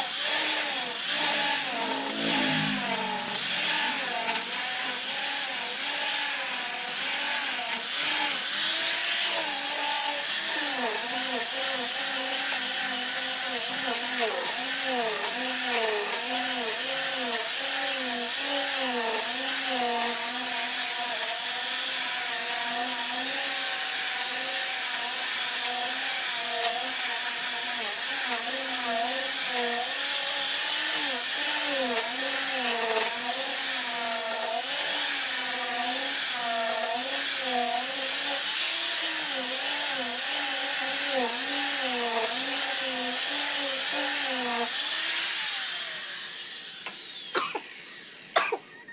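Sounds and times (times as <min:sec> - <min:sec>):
electric sander on wood: 0:00.0 - 0:48.3.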